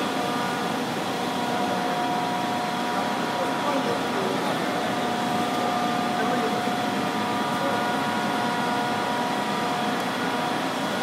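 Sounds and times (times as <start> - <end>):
lathe machine hum: 0.0 - 11.0.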